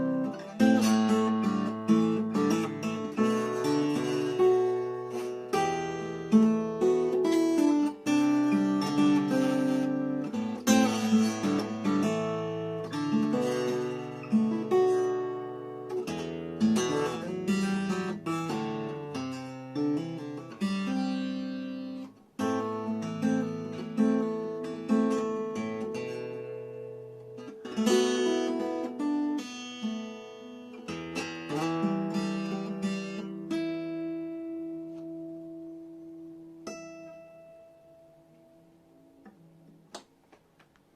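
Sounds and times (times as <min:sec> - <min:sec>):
acoustic guitar playing: 0:00.0 - 0:40.9.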